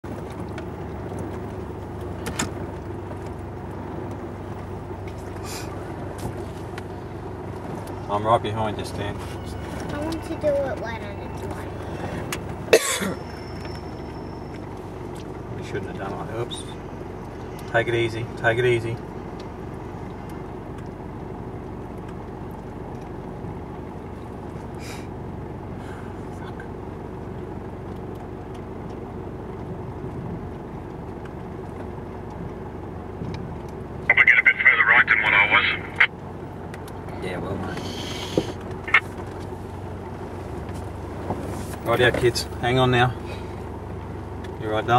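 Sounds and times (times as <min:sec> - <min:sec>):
engine running low: 0:00.0 - 0:44.9.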